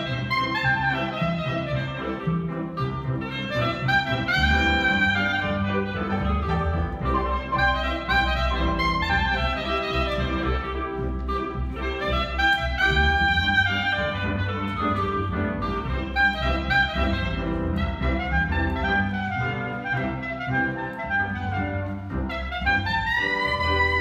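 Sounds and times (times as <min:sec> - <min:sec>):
clarinet jazz melody: 0:00.0 - 0:24.0
piano: 0:00.0 - 0:24.0
upright bass: 0:00.0 - 0:24.0.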